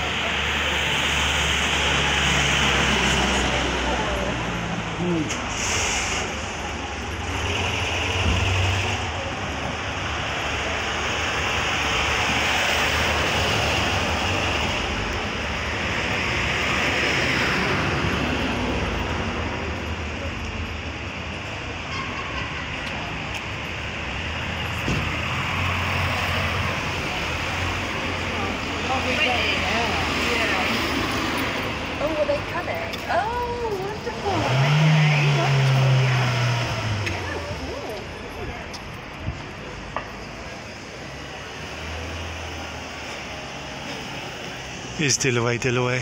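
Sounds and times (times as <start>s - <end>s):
cars passing by: 0.0s - 46.0s.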